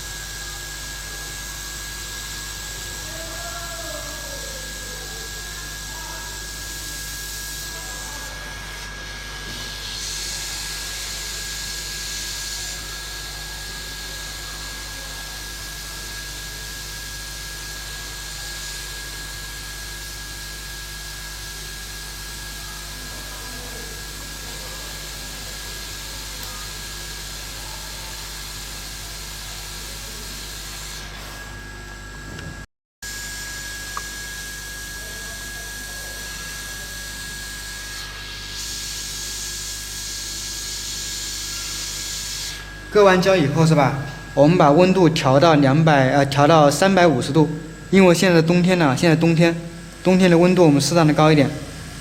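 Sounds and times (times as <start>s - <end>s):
hot air gun hissing with high whine: 0.0s - 52.0s.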